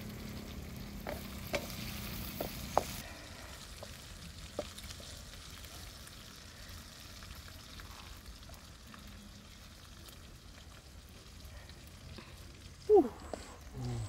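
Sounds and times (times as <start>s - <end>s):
fire crackling: 0.0s - 14.0s
insects sizzling in a wok: 0.0s - 14.0s.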